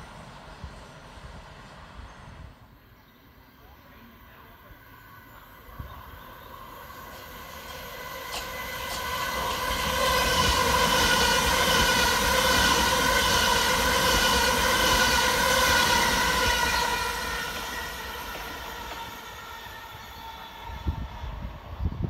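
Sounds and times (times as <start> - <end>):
electric train whine: 0.0 - 22.0.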